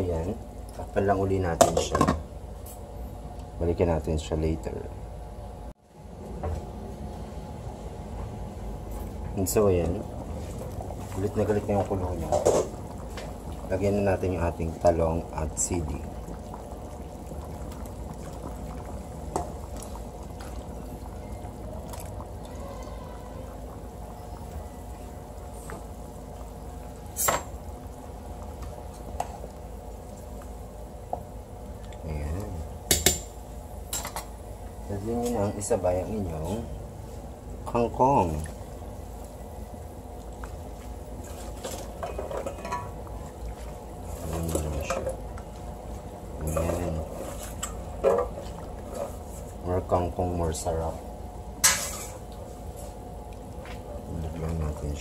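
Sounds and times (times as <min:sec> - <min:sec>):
broth boiling and bubbling: 0:00.0 - 0:55.0.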